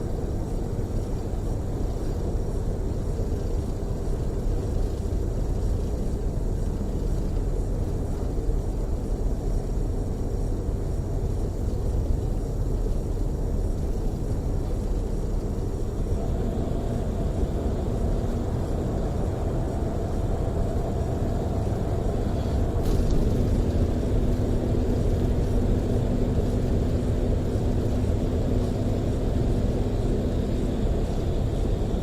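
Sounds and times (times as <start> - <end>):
coach engine rumble: 0.0 - 32.0
faint steady hum: 0.0 - 32.0.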